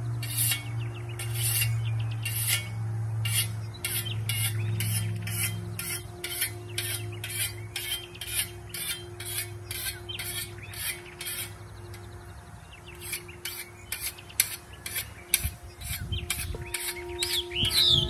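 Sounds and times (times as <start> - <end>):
whetstone scraping scythe blade: 0.2 - 11.6, 12.9 - 18.0.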